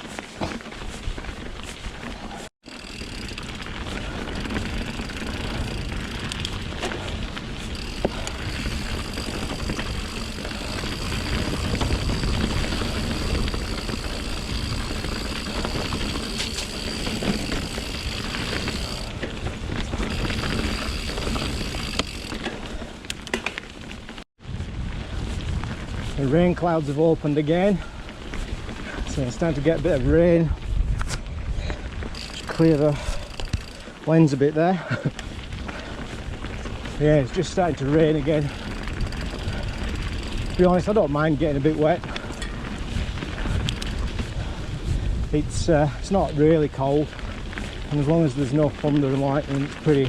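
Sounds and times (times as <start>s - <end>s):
bike rattles and knocks: 0.0s - 24.2s, 27.3s - 50.0s
tyre and wind rumble: 0.0s - 50.0s.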